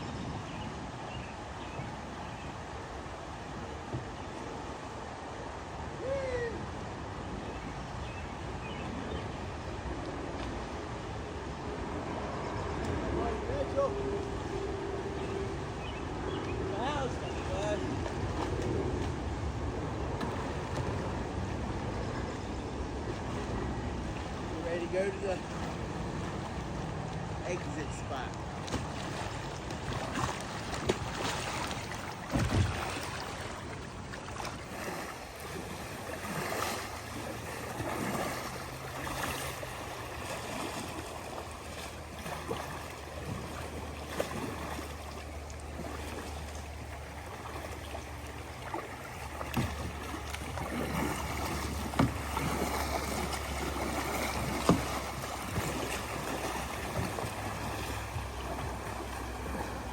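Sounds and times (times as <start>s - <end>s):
paddle splashing water: 0.7s - 59.9s.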